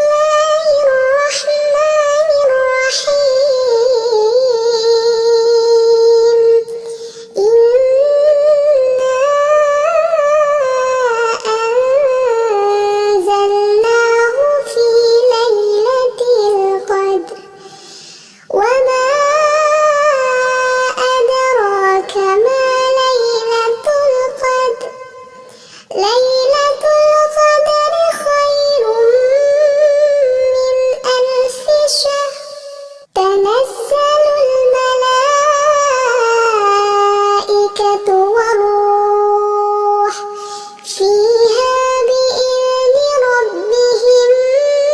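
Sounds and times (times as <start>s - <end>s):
person chanting recitation: 0.0s - 17.6s, 18.5s - 25.3s, 26.0s - 44.9s.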